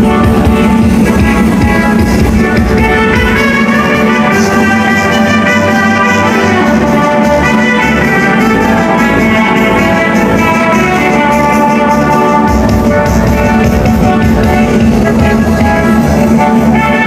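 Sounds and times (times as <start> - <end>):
dance music with brass: 0.0 - 17.0
heavy bass: 0.0 - 17.0.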